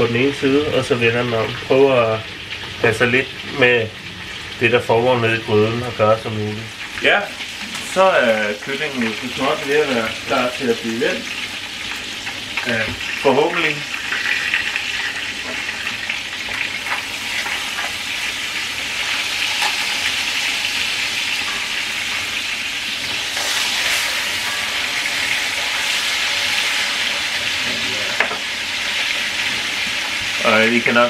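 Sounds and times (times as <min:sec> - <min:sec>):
chicken sizzling in oil: 0:00.0 - 0:31.0.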